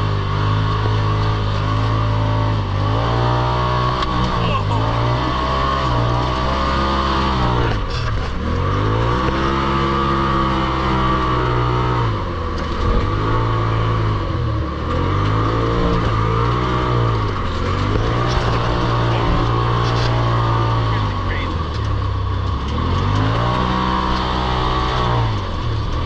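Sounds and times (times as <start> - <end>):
engine revving: 0.0 - 26.0.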